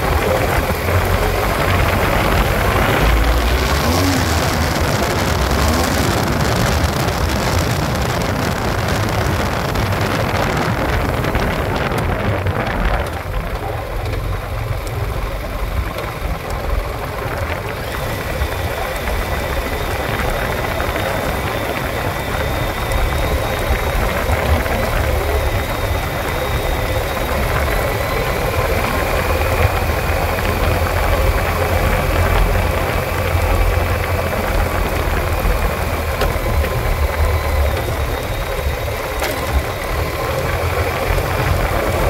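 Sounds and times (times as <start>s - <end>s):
motorcycle engine running: 0.0s - 42.0s
tyres on gravel: 0.0s - 42.0s
wind noise on microphone: 0.0s - 42.0s.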